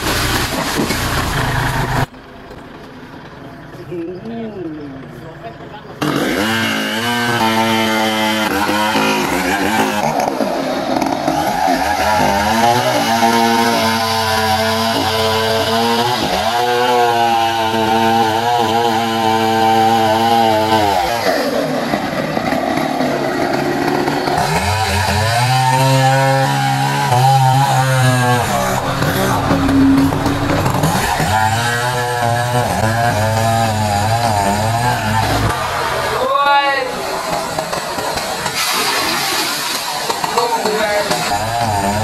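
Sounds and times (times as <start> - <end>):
chainsaw cutting wood: 0.0 - 2.1, 6.0 - 36.2, 36.9 - 42.0.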